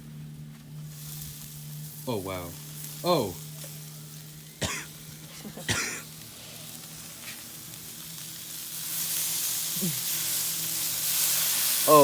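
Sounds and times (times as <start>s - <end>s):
burgers sizzling on grill: 0.0s - 12.0s.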